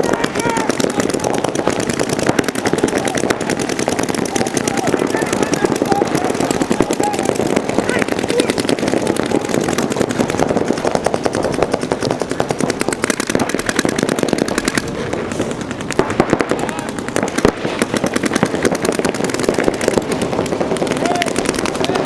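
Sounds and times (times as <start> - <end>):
paintball markers firing: 0.0 - 22.0.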